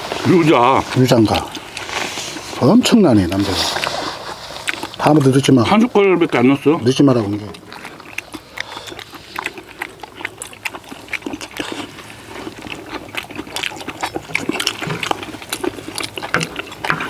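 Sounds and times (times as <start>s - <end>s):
chewing and lip-smacking: 0.0s - 17.0s.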